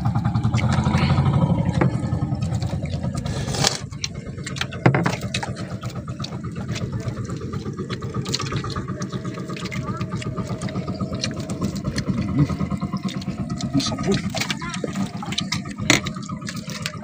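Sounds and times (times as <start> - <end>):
small boat engine throbbing: 0.0 - 17.0.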